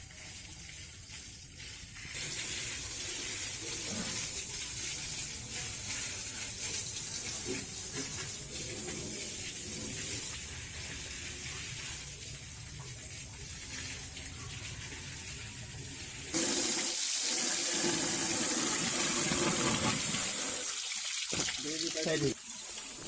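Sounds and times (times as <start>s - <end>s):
hose spray hissing and splashing: 0.0s - 23.0s.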